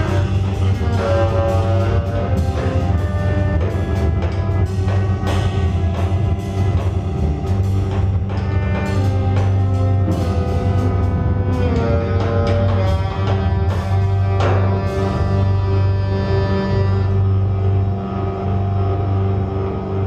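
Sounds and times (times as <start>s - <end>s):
drum kit and cymbal hits: 0.0s - 17.6s
long held pitched tones: 0.0s - 20.0s
low drone: 0.0s - 20.0s
saxophone: 0.0s - 20.0s.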